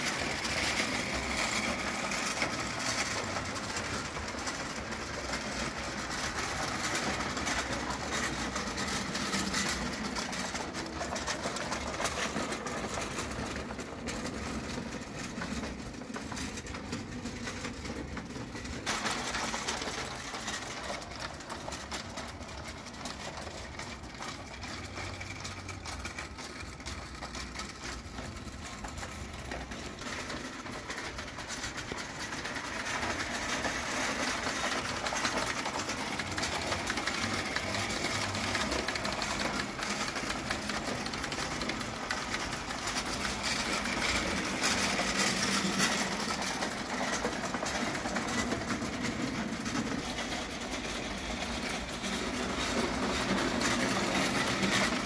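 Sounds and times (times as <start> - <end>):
toy steam locomotive clattering: 0.0 - 55.0.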